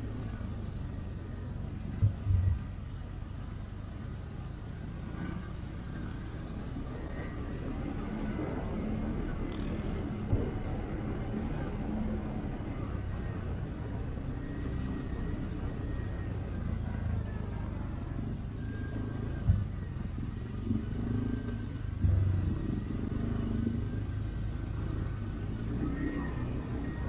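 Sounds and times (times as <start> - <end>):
atv engine rumbling: 0.0 - 27.0.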